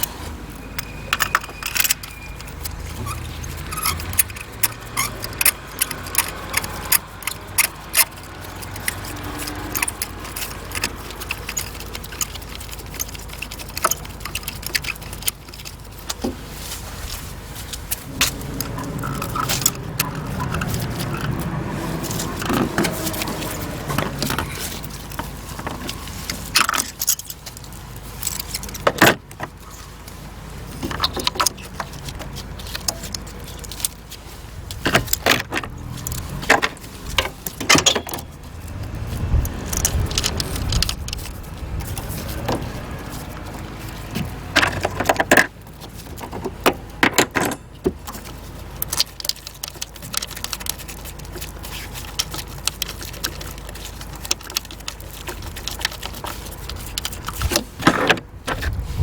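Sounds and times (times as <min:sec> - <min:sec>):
metal tools clinking: 0:00.0 - 0:30.0, 0:30.6 - 0:59.0.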